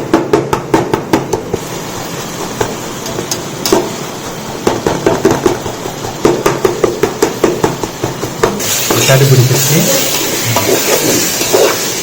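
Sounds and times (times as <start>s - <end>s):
frying hiss: 0.1s - 12.0s.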